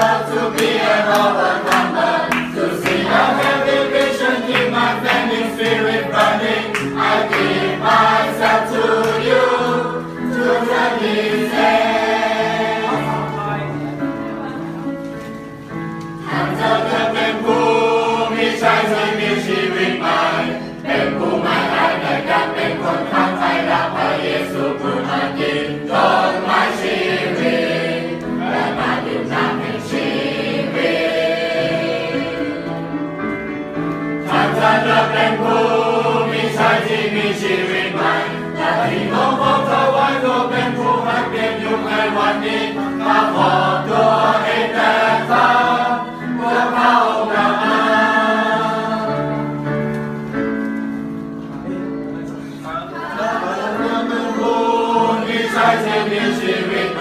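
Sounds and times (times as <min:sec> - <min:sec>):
choir singing a hymn: 0:00.0 - 0:15.0, 0:15.6 - 0:57.0.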